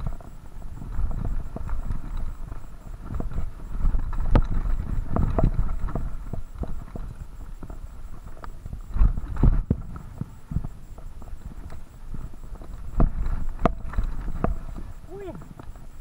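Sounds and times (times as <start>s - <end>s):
bike wheels knocking on rocks: 0.0s - 16.0s.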